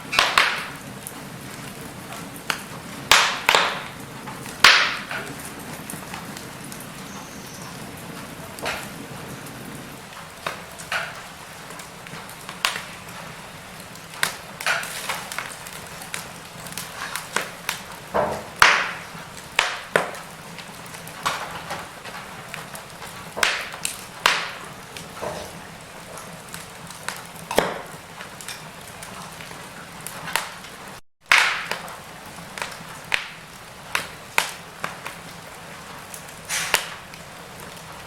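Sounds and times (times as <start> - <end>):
logs crackling in fireplace: 0.0 - 38.0
low steady fire hiss: 0.0 - 38.0.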